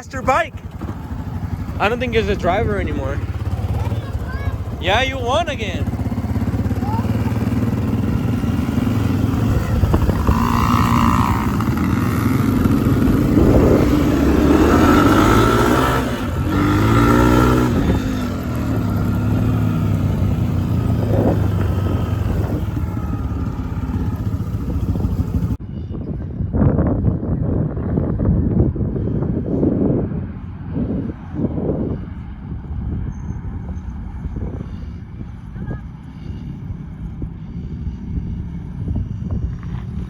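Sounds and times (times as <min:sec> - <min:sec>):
dirt bike engines revving: 0:00.0 - 0:25.6, 0:28.9 - 0:40.0.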